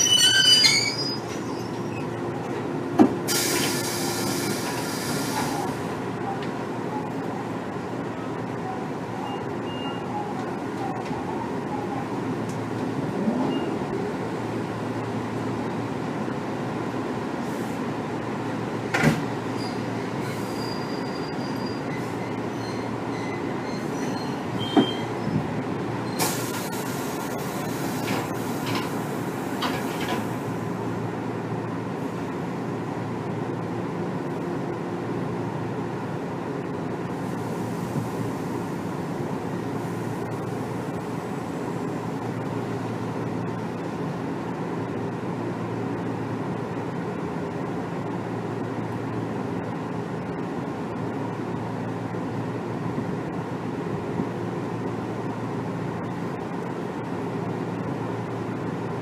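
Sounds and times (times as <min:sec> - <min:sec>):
train interior hum: 0:00.0 - 0:59.0.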